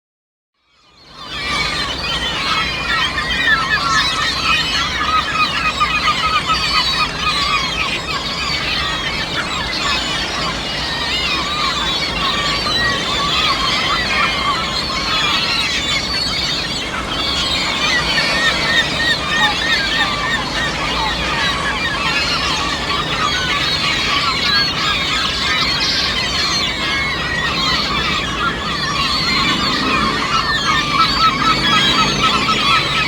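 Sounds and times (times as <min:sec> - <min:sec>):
flock of gulls squawking: 0:01.0 - 0:33.0.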